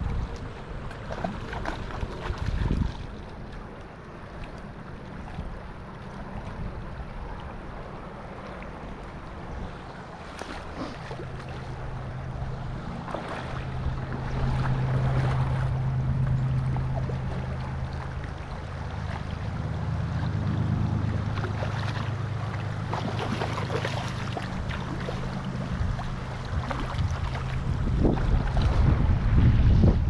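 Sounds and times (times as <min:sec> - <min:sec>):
wind buffeting microphone: 0:00.0 - 0:03.6, 0:08.9 - 0:30.0
river current rushing: 0:00.0 - 0:29.4.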